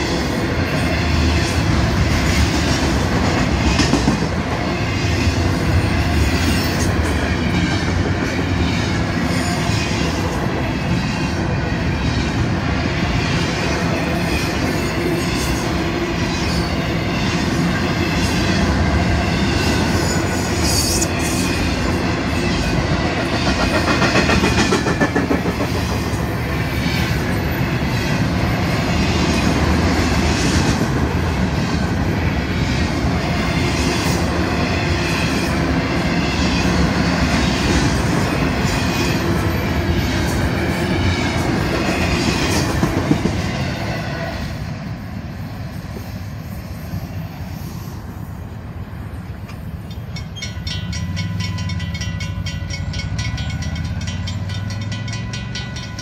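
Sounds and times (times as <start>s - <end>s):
rail clickety-clack: 0.0s - 56.0s
train wheels rumbling on rails: 0.0s - 56.0s.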